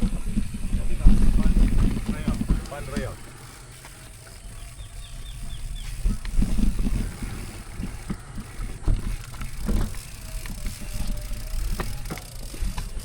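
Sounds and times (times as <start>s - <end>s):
wind buffeting microphone: 0.0s - 12.1s
mountain bike rattling over rough ground: 0.0s - 13.0s.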